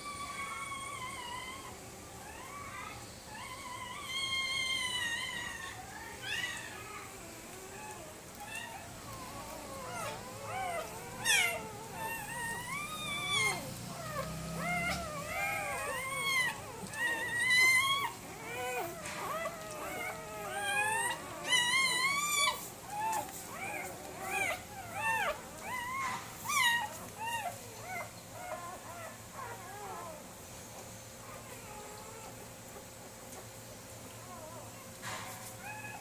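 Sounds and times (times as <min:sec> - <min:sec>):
puppies whining and yelping: 0:00.0 - 0:36.0.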